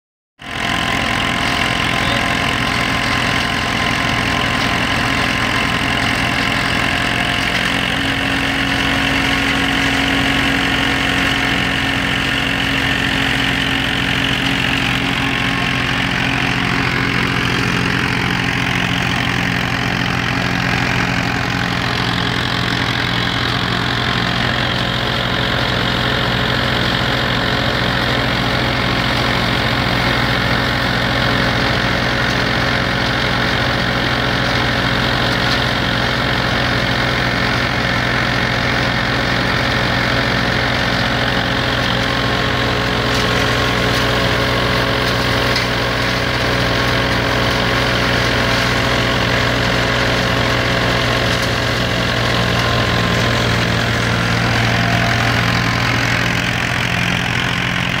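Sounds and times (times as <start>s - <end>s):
thresher drum and fan whirring: 0.4s - 58.0s
tractor diesel engine running: 0.4s - 58.0s.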